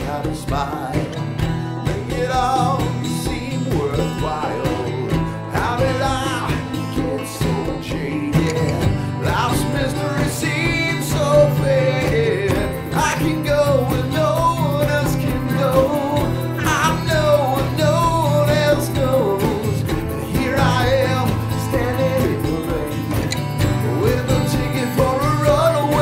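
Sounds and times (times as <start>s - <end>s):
acoustic guitar strumming: 0.0s - 26.0s
man singing: 0.0s - 26.0s.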